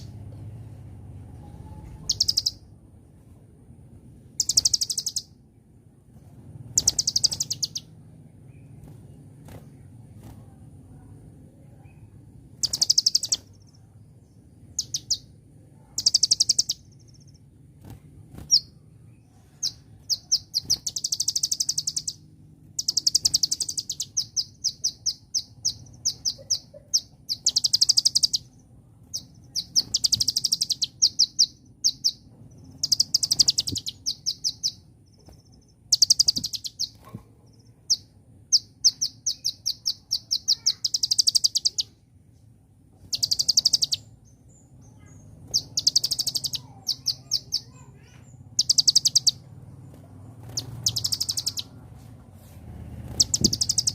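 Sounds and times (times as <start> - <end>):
sunbird twittering trills: 0.0 - 2.7, 4.2 - 5.8, 6.6 - 42.1, 42.9 - 52.1, 52.7 - 53.9.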